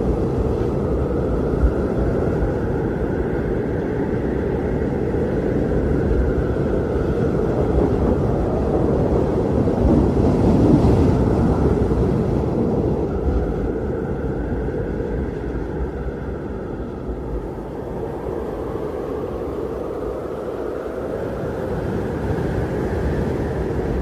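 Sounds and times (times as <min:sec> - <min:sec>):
blizzard wind howling: 0:00.0 - 0:24.0.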